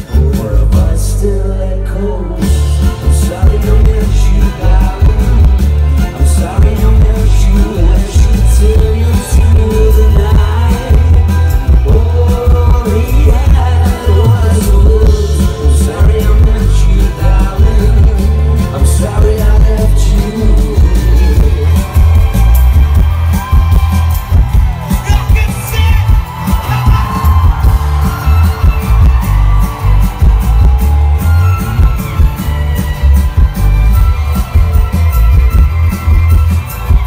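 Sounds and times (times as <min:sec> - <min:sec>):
crowd noise: 0:00.0 - 0:37.0
live rock band playing: 0:00.0 - 0:37.0.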